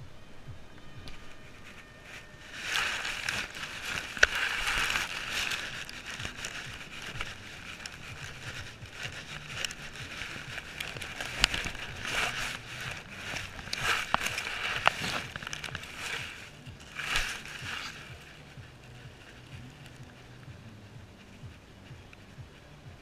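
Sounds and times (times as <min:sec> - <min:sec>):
grass and fur rustling on camera: 0:00.0 - 0:23.0.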